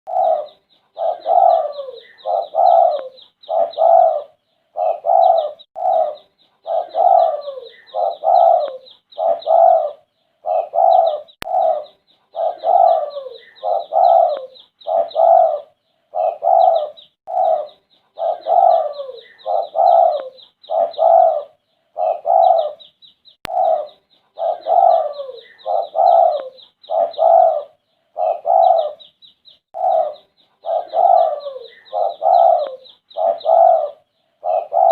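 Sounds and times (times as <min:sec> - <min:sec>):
dove cooing: 0:00.1 - 0:22.9, 0:23.5 - 0:29.1, 0:29.7 - 0:34.9.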